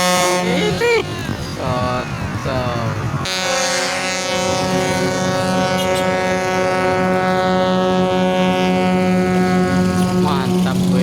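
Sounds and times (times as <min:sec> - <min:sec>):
deep air horn blast: 0:00.0 - 0:11.0.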